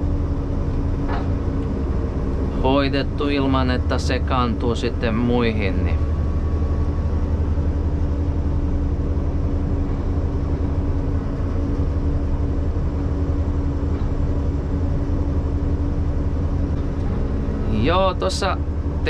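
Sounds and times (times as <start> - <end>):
diesel engine drone: 0.0 - 19.0
hydraulic hum: 0.0 - 19.0.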